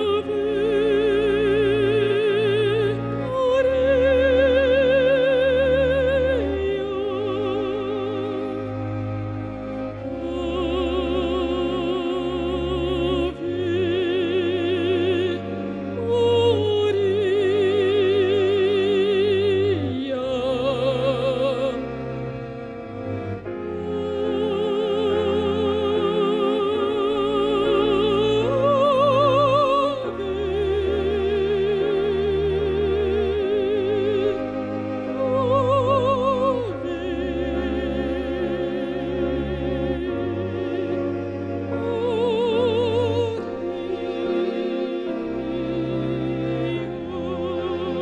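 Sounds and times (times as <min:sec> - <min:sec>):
woman singing opera: 0:00.0 - 0:22.0, 0:23.5 - 0:48.0
orchestral accompaniment: 0:00.0 - 0:48.0.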